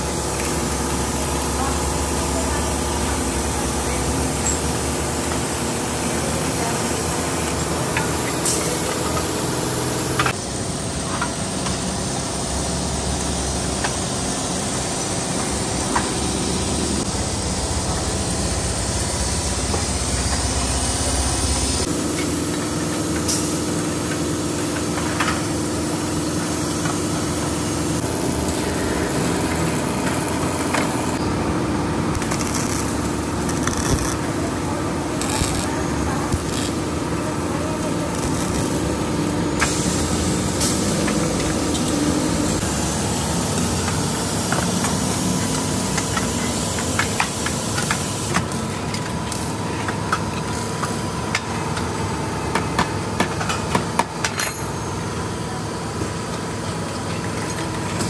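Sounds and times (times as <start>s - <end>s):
workshop machinery drone: 0.0s - 58.0s.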